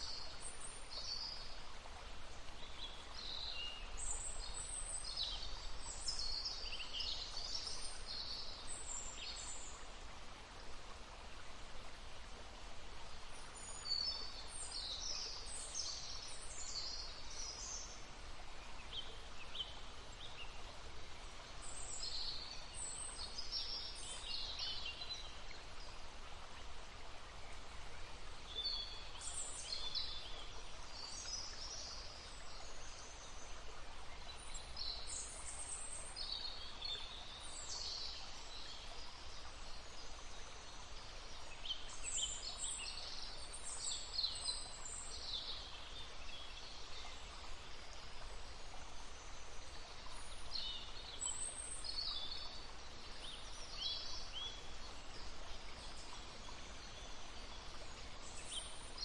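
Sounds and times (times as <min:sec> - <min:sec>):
babbling brook: 0:00.0 - 0:59.0.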